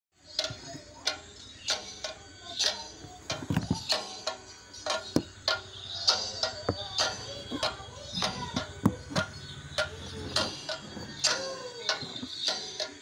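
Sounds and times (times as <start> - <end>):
drums struck with sticks: 1.0 - 12.6.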